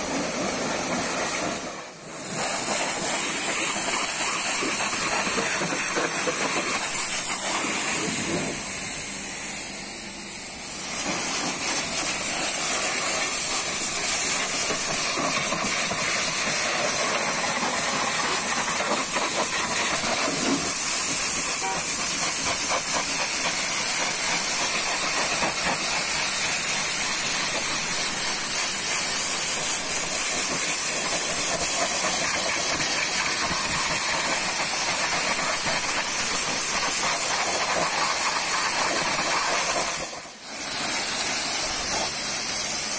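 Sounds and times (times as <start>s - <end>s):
pressure washer spraying: 0.0s - 42.9s.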